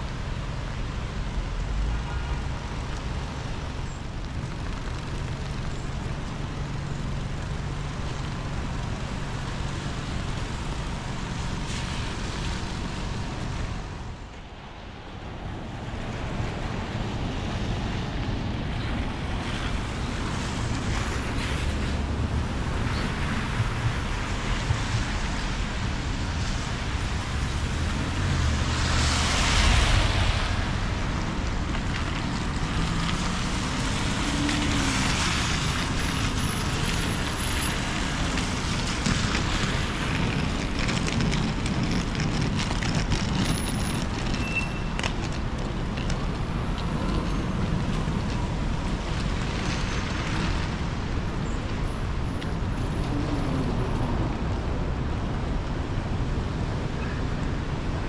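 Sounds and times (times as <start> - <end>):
traffic on wet road: 0.0 - 58.0.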